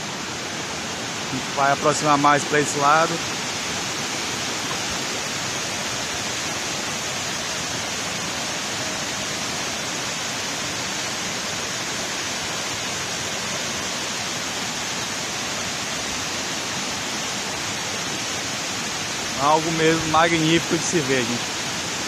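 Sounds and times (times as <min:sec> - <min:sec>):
water pouring down dam spillway: 0:00.0 - 0:22.0.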